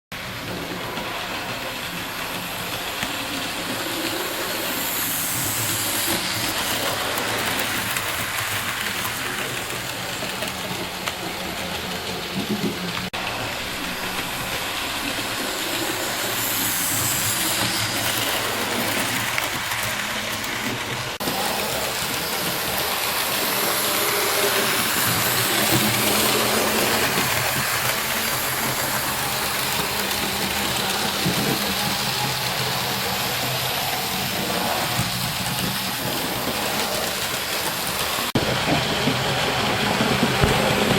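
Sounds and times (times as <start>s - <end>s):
model train running: 0.1s - 40.9s
steam hiss: 0.2s - 40.9s.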